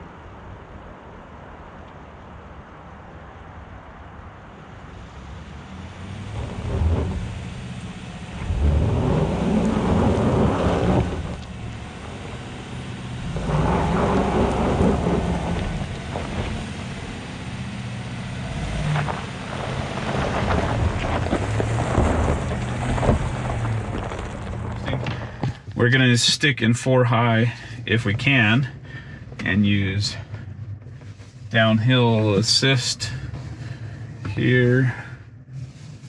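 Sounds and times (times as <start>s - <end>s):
truck engine revving: 4.8s - 36.0s
tyres crunching on gravel: 5.1s - 36.0s.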